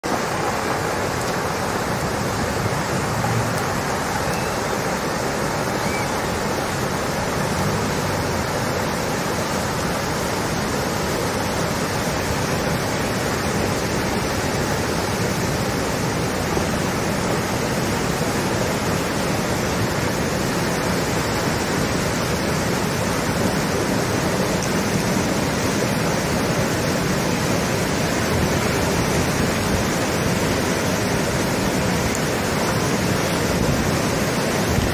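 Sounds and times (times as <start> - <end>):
floodwater rushing through culvert: 0.0 - 34.9.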